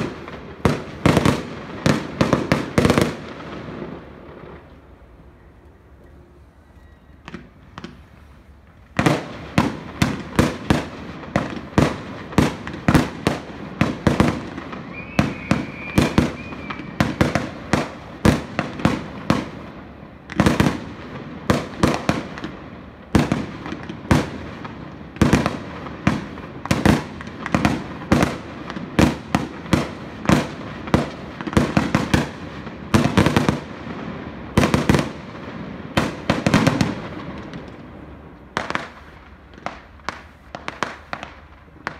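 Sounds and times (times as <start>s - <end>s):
fireworks bursts and bangs: 0.0s - 4.8s, 7.2s - 41.9s.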